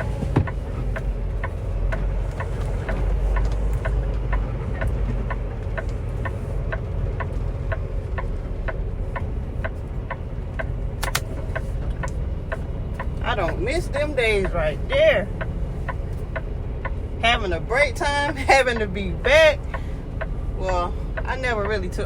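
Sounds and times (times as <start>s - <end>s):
diesel truck engine running: 0.0s - 22.0s
steady ticking: 0.0s - 22.0s.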